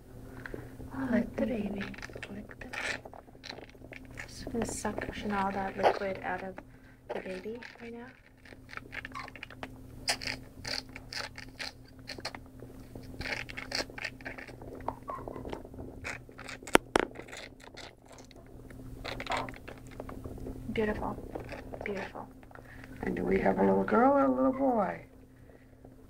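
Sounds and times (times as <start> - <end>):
steady low hum: 0.0 - 26.0
wet sucking and scraping: 1.4 - 23.9.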